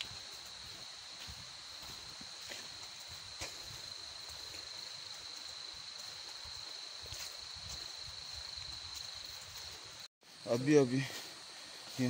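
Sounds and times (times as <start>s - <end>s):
footsteps on forest trail: 0.0s - 12.0s
insects droning: 0.0s - 12.0s.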